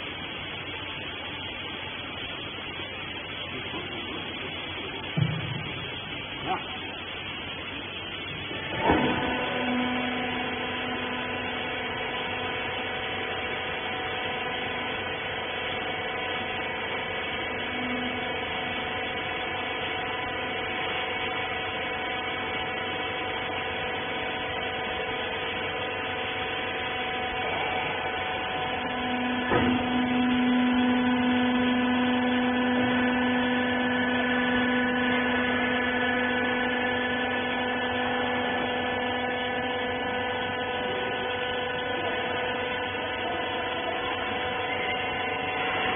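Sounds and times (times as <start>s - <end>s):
motor and hydraulic pump hum: 0.0s - 45.9s.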